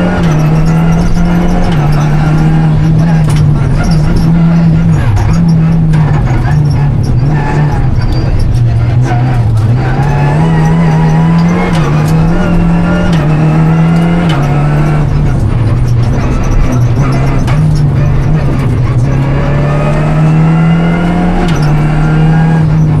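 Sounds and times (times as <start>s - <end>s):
car engine revving through gears: 0.0s - 23.0s.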